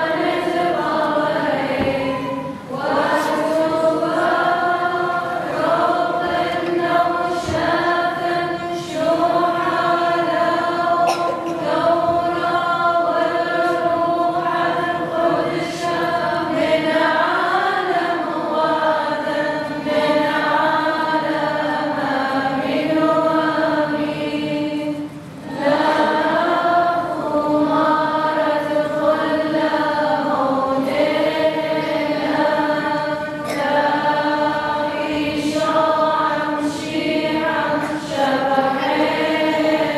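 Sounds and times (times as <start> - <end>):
choir singing a chant: 0.0 - 39.9.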